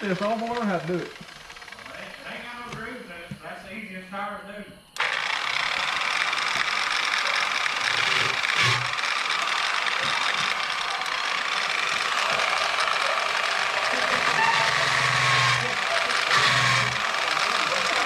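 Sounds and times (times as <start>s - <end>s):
grinder cutting rubber tire: 0.0s - 2.4s, 5.0s - 18.0s.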